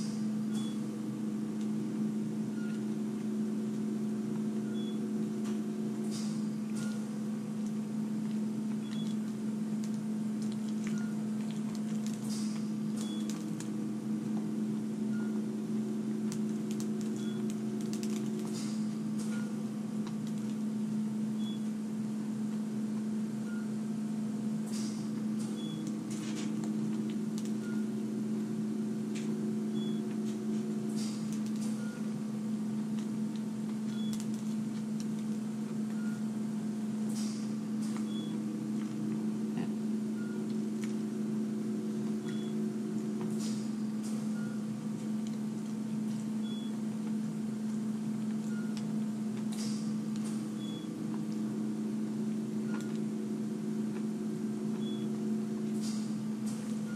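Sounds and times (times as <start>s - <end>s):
low electric hum: 0.0s - 56.9s.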